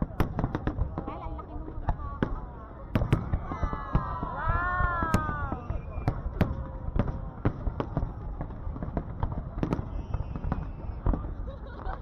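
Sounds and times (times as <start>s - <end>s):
fireworks bangs: 0.0s - 12.0s
low rumble of explosions: 0.0s - 12.0s.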